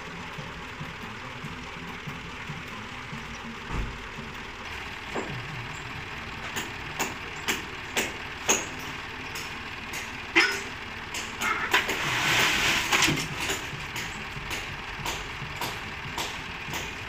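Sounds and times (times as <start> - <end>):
dump truck engine running: 0.0 - 17.0.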